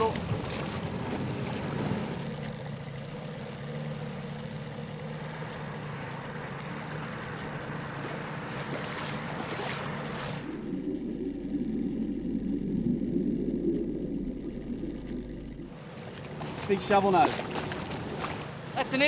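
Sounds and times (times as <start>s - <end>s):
water splashing against hull: 0.0s - 12.3s, 14.0s - 19.0s
outboard motor running: 0.0s - 19.0s.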